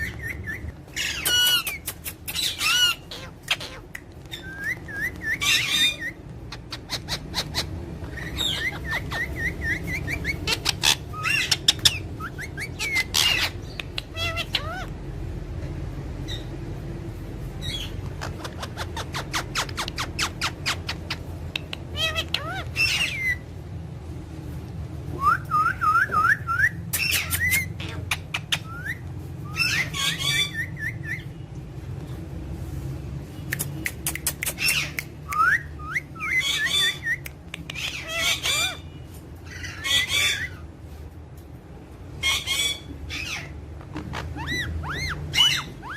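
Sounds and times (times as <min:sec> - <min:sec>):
parrots chirping and whistling: 0:00.0 - 0:15.4, 0:17.6 - 0:23.6, 0:25.1 - 0:31.5, 0:33.5 - 0:40.8, 0:42.1 - 0:45.9.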